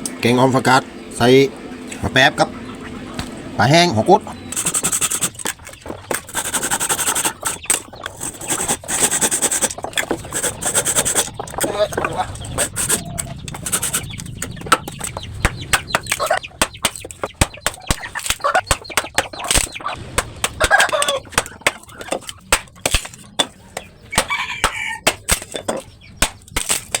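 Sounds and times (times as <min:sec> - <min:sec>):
chickens clucking: 0:00.0 - 0:27.0
sharp clicks and crackles: 0:04.5 - 0:27.0.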